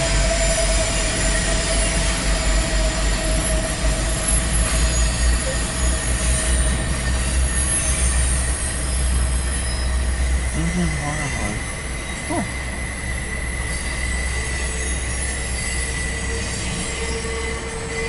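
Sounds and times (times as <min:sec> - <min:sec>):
freight train cars rumbling past: 0:00.0 - 0:18.0
thin wheel squeal: 0:00.2 - 0:18.0.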